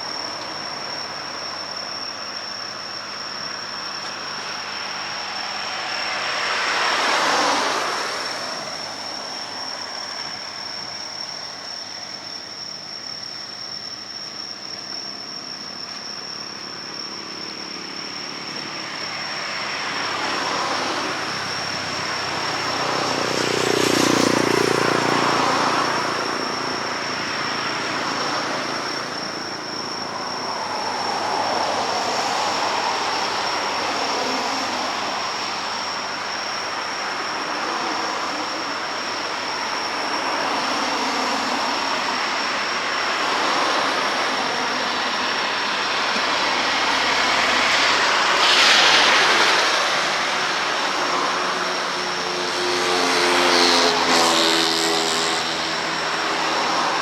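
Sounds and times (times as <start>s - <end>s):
steady high-pitched whine: 0.0s - 57.0s
road vehicles passing: 3.1s - 11.5s, 17.2s - 57.0s.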